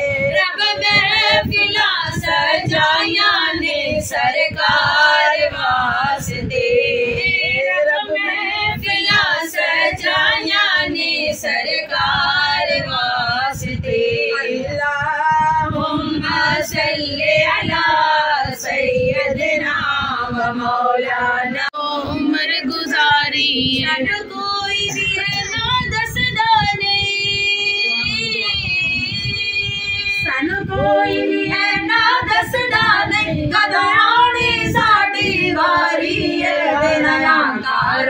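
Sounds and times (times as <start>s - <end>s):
women singing devotional song: 0.0s - 38.0s.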